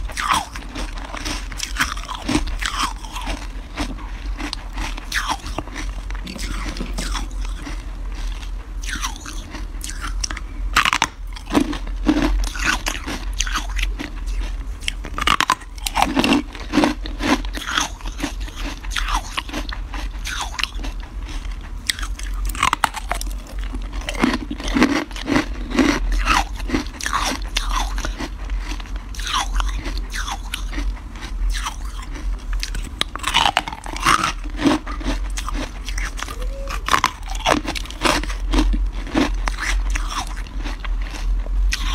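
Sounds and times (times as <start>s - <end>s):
chewing crunchy ice: 0.0s - 41.9s.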